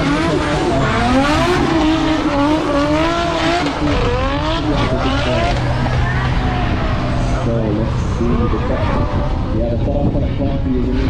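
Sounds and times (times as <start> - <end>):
car engine revving hard: 0.0 - 11.0
steady rush of noise: 0.4 - 11.0.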